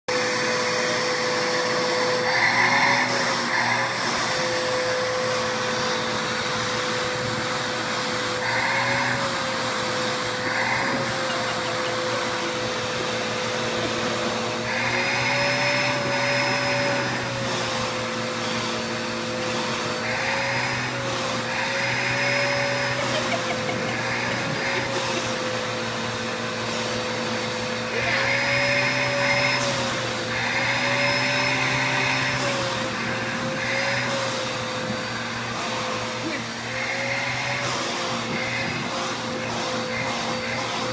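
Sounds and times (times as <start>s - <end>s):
vacuum cleaner running: 0.1s - 40.9s.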